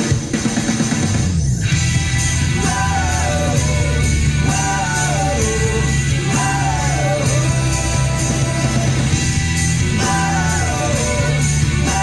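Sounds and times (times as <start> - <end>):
rock-pop song with vocals: 0.0 - 12.0.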